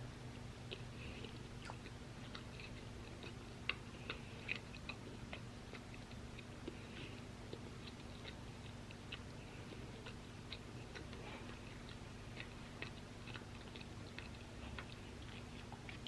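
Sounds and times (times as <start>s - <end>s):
chewing crunchy fries: 0.1s - 16.0s.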